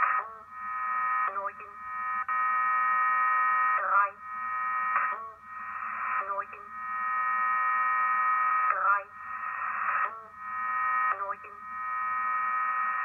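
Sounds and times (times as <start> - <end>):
buzzy multi-tone radio signal: 0.0 - 13.0.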